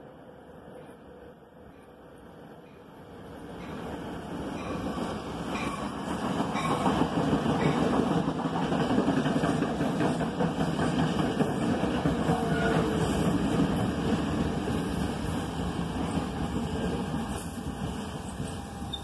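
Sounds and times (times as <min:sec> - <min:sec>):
train wheels rumbling on rail: 0:03.5 - 0:19.0.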